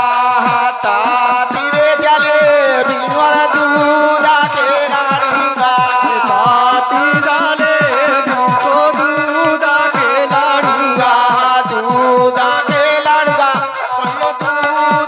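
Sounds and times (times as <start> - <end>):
rattling shaken percussion: 0.0 - 15.0.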